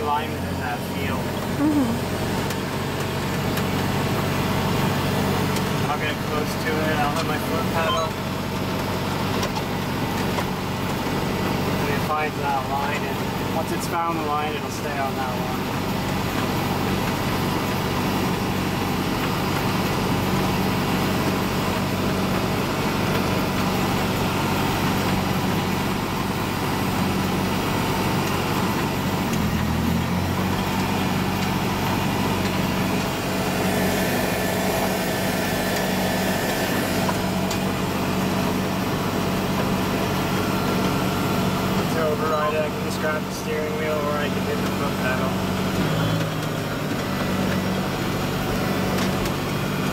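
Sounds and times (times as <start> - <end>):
tractor diesel engine drone: 0.0 - 49.9.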